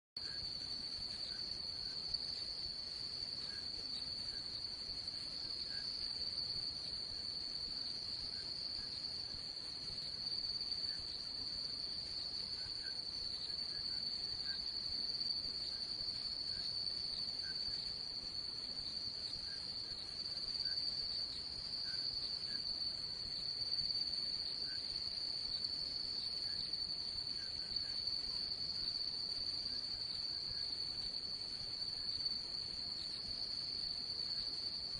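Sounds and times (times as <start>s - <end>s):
crickets trilling: 0.2s - 34.9s.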